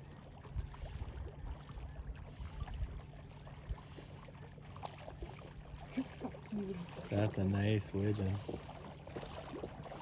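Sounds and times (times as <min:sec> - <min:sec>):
water sloshing: 0:00.0 - 0:10.0.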